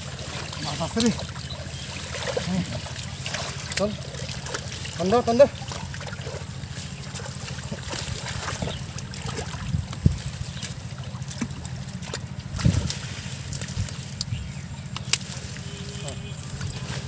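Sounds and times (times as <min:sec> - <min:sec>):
loud water splashes: 0:00.0 - 0:17.0
plants clicking and rustling: 0:00.0 - 0:17.0
pond water splashing and trickling: 0:00.0 - 0:17.0.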